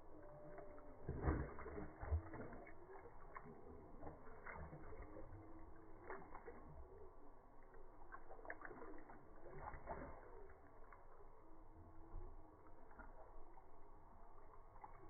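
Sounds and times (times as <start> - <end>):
dog lapping water: 0.0 - 15.0
drinking fountain water stream: 0.0 - 15.0.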